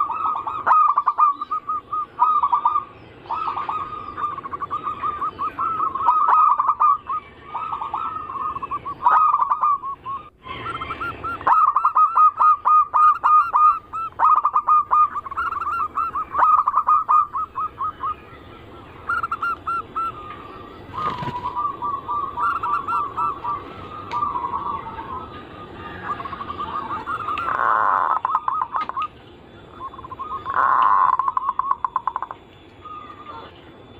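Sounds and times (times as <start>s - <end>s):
doves cooing: 0.0s - 33.9s.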